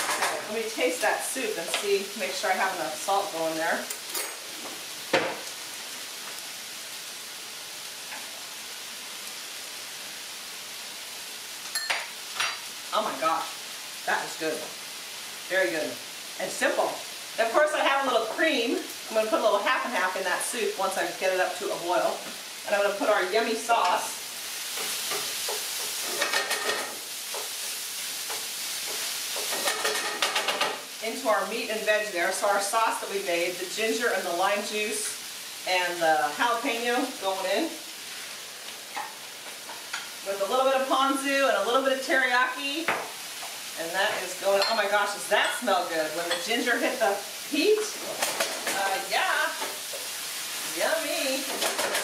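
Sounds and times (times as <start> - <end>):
food hissing in a pan: 0.0 - 52.0
meat and vegetables sizzling: 0.0 - 52.0.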